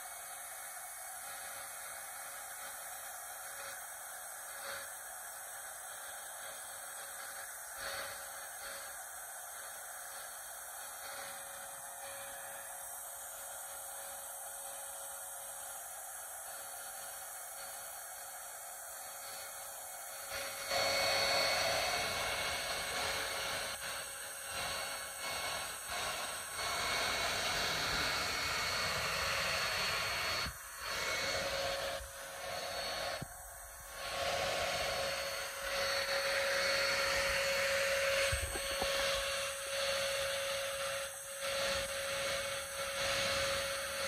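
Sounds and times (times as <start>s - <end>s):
hair dryer running: 0.0s - 44.0s.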